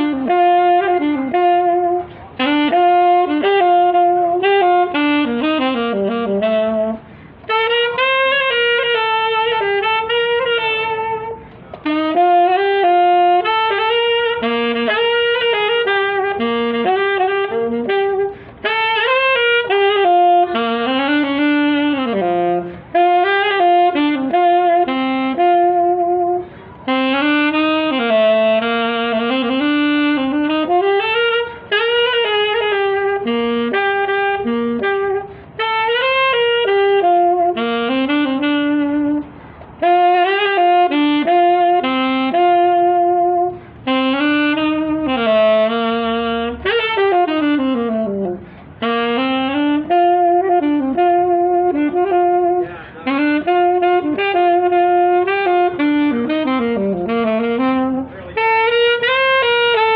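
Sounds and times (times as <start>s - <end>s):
saxophone melody: 0.0s - 59.9s.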